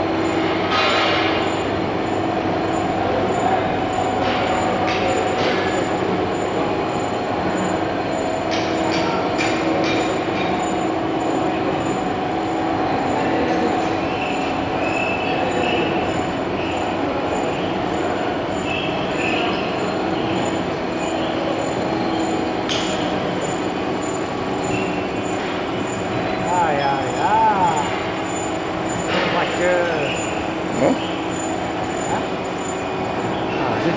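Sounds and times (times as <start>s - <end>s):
milling machine hum: 0.0s - 33.9s.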